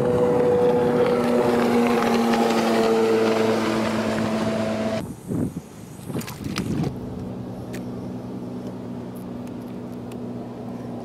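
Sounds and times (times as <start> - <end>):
watercraft engine passing: 0.0 - 5.0, 5.7 - 11.0.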